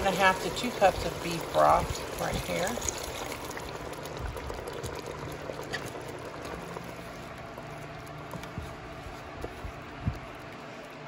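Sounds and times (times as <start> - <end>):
broth bubbling in a pot: 0.0 - 11.0.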